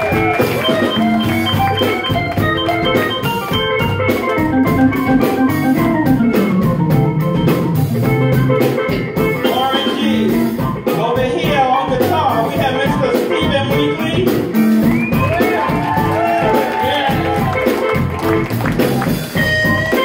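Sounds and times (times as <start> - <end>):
bass line: 0.0 - 20.0
organ keyboard chords: 0.0 - 20.0
steady drum beat: 0.0 - 20.0.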